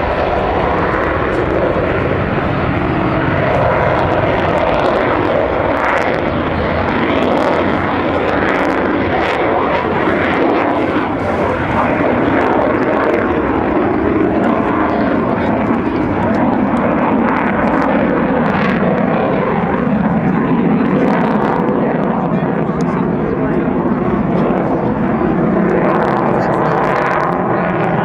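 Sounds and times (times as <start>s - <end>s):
loud jet engine roar: 0.0s - 28.0s.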